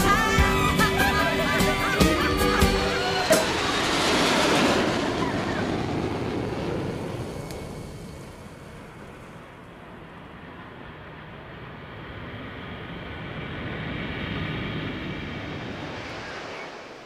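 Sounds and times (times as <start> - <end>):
jet engine rushing with whine: 0.0 - 17.0.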